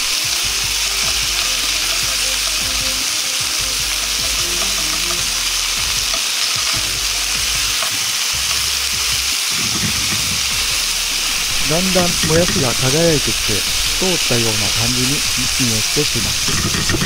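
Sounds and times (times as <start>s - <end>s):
chopsticks stirring food: 0.0s - 17.0s
meat sizzling in a frying pan: 0.0s - 17.0s.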